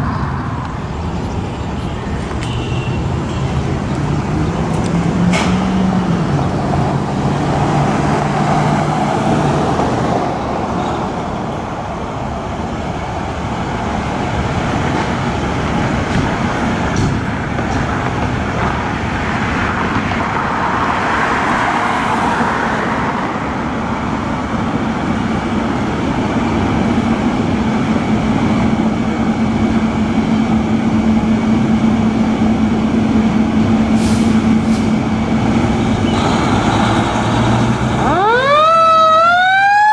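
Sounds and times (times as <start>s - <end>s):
engine hum: 0.0s - 39.6s
road traffic: 0.0s - 39.9s.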